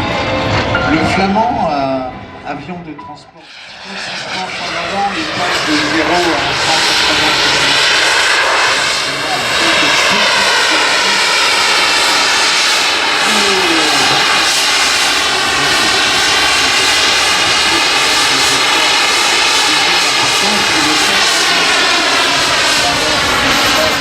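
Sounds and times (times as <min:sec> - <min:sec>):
propeller plane flying past: 0:00.0 - 0:24.0.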